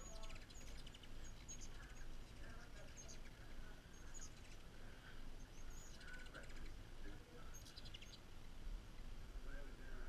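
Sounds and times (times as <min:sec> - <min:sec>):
hummingbirds squeaking and chittering: 0:00.0 - 0:10.0.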